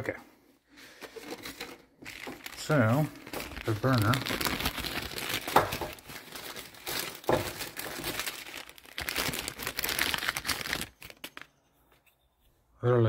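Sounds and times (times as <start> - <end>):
plastic bag crinkling: 1.0 - 11.6.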